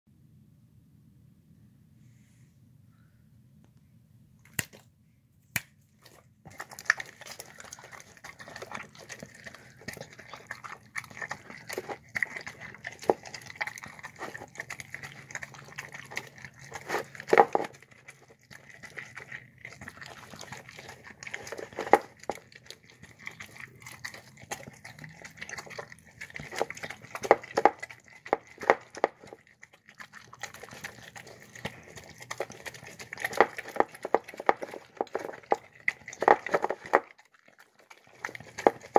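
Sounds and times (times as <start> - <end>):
dog chewing and lapping: 6.0 - 38.9.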